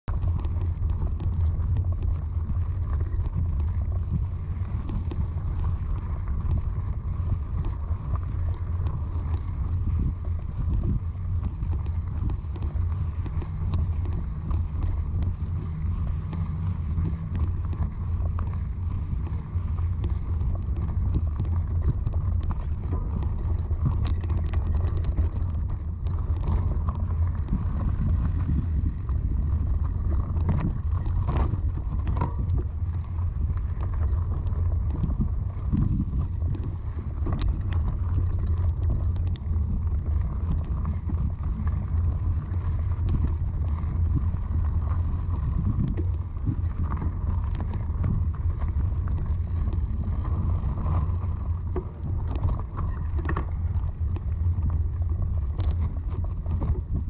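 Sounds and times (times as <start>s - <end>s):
bike tyre and wind rumble: 0.0s - 57.0s
gravel and bike parts rattling: 0.0s - 57.0s.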